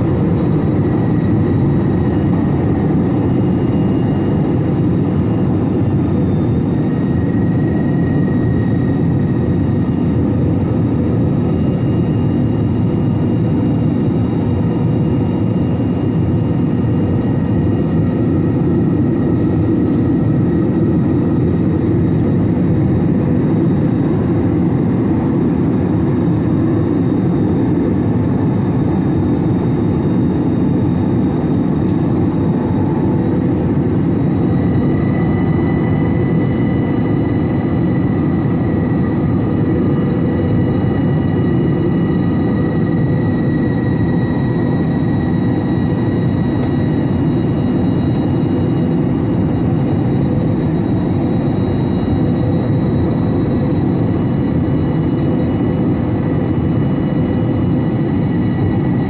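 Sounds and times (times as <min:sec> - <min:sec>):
faint high whine: 0:00.0 - 0:59.0
jet engines and airflow rumble: 0:00.0 - 0:59.0.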